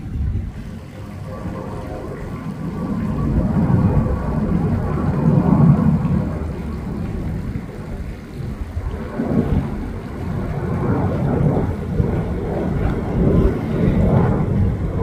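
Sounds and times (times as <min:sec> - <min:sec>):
distant jet engines rumbling: 0:00.0 - 0:15.0
wind on microphone: 0:00.0 - 0:15.0.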